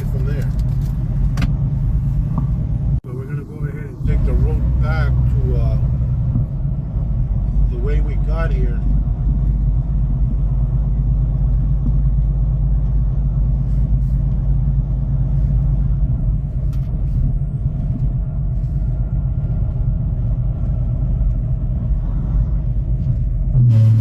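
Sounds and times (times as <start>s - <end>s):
diesel truck engine rumble: 0.0s - 24.0s
road noise: 0.0s - 24.0s.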